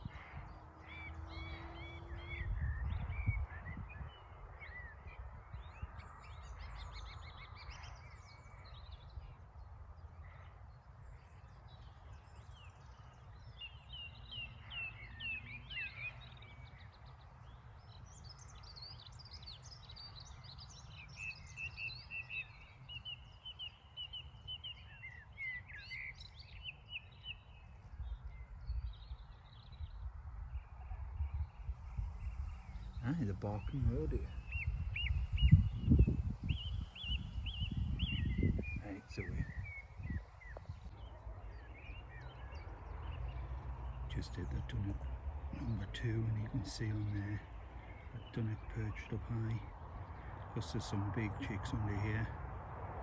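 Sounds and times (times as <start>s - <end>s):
songbirds singing and chirping: 0.0s - 53.0s.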